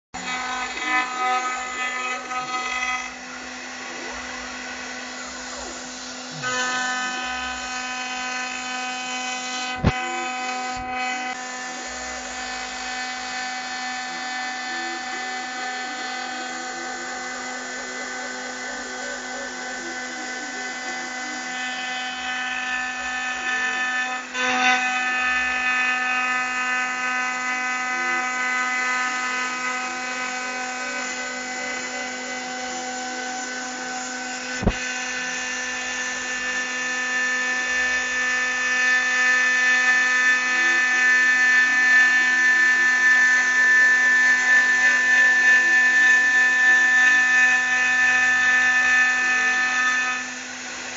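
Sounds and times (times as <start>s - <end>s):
high machine spindle whine: 0.2s - 50.9s.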